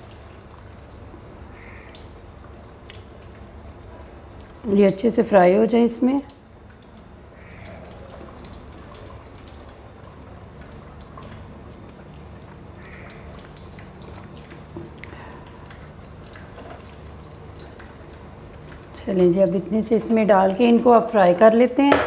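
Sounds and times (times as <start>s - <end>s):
chicken wings sizzling in oil: 0.0s - 22.0s.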